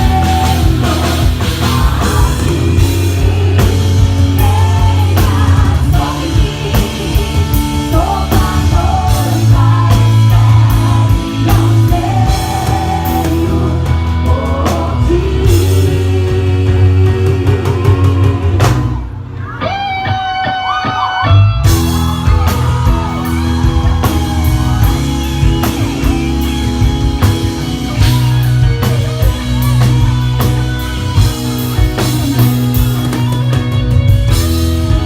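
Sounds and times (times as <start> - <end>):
drums and cymbals: 0.0 - 19.1, 21.5 - 35.0
live rock gospel band: 0.0 - 35.0.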